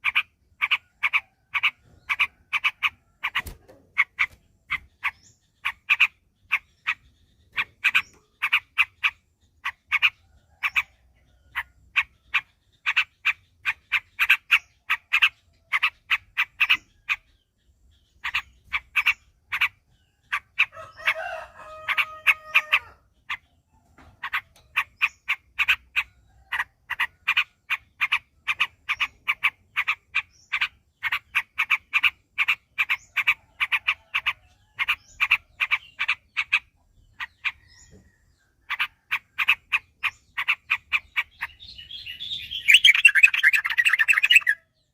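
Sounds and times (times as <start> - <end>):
long steady-pitch bird call: 0.0 - 44.9.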